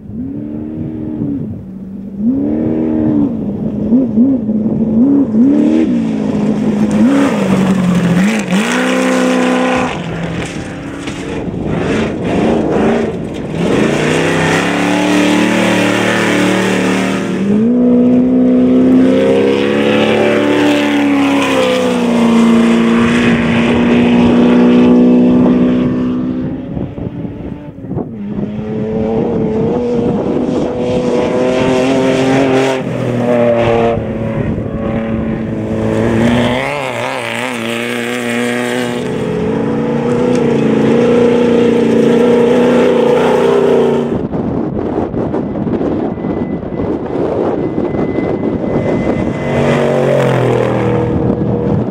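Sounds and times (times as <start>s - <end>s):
race truck engines passing: 0.0s - 51.9s.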